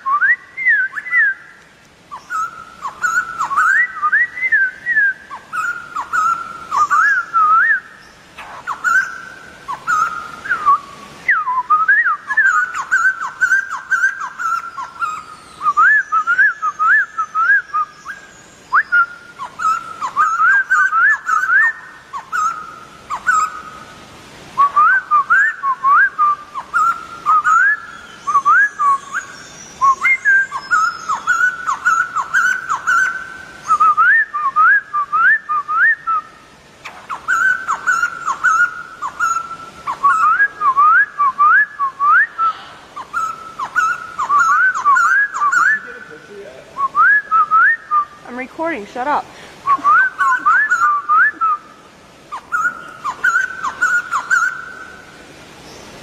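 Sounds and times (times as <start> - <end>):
bird singing whistled notes: 0.0 - 23.8, 24.6 - 48.8, 49.6 - 55.0.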